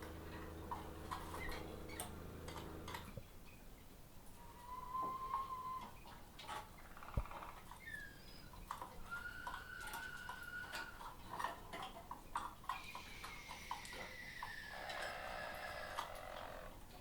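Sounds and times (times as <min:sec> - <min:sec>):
canaries singing: 0:00.0 - 0:11.6, 0:12.2 - 0:16.8.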